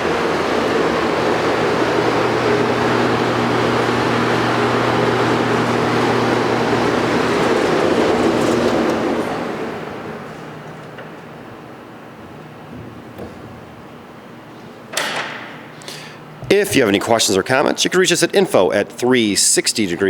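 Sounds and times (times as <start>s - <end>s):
blower rushing air with motor hum: 0.0s - 20.0s.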